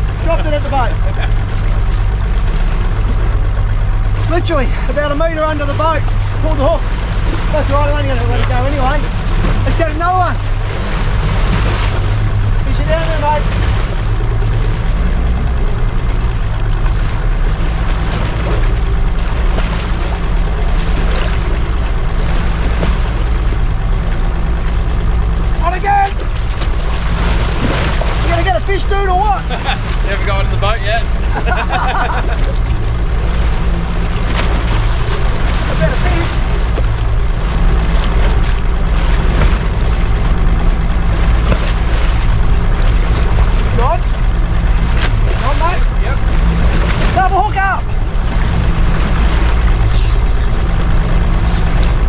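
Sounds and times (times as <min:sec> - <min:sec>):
boat engine idling: 0:00.0 - 0:52.0
water slapping against hull: 0:00.0 - 0:52.0
wind and waves hissing: 0:00.0 - 0:52.0.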